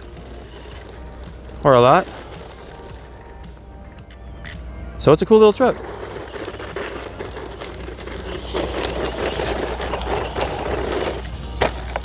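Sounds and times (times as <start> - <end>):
small clicks and scrapes: 0.0 - 4.6, 5.7 - 12.0
toy truck motor rushing: 0.0 - 12.0.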